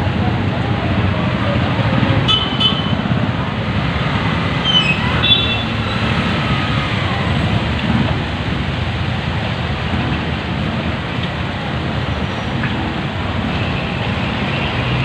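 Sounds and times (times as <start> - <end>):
motor-tricycle engines rumbling: 0.0 - 15.0.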